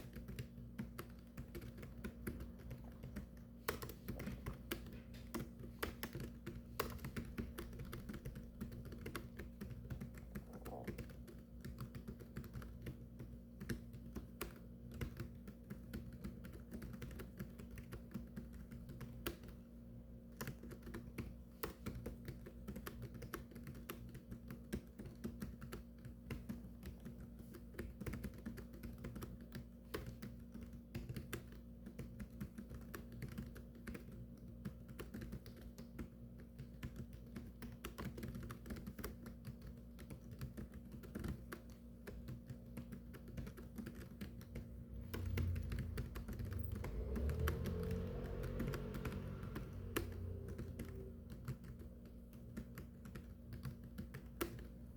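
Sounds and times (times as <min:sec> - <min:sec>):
fast keyboard typing: 0:00.0 - 0:54.9
low electrical hum: 0:00.0 - 0:54.9.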